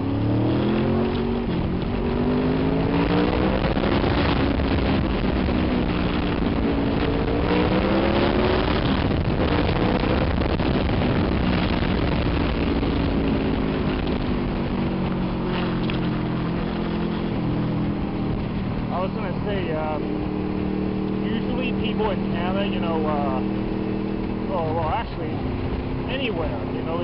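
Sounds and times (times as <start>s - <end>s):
motorcycle engine revving: 0.0s - 27.0s
wind and road noise: 0.0s - 27.0s.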